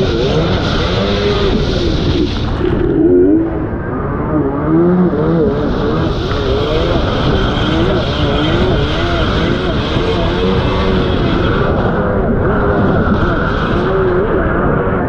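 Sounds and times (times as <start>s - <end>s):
rushing water spray: 0.0s - 3.5s, 5.2s - 14.1s
jet ski engine revving: 0.0s - 15.0s
wind noise: 0.0s - 15.0s.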